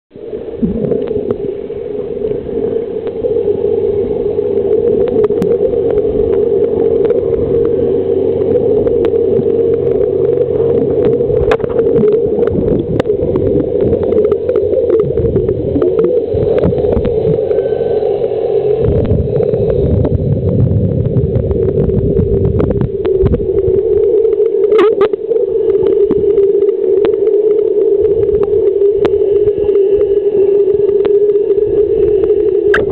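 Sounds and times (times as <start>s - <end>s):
muffled underwater drone: 0.1s - 32.9s.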